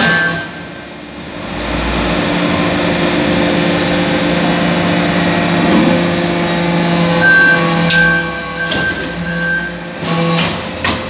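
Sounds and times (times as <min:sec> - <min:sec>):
press mechanical hum: 0:00.0 - 0:11.0.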